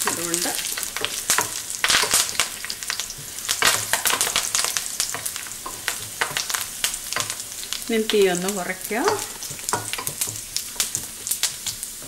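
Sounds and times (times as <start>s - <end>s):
hot oil sizzling: 0.0s - 12.0s
leaves crackling and popping: 0.0s - 12.0s
wooden spoon stirring: 0.0s - 12.0s.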